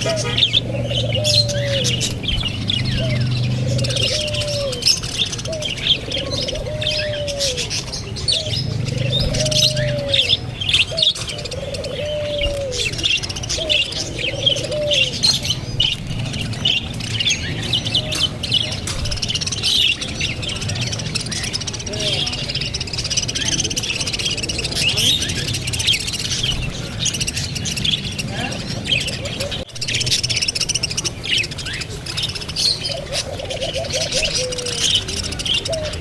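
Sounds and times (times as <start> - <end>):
birds chirping and twittering: 0.0 - 36.0.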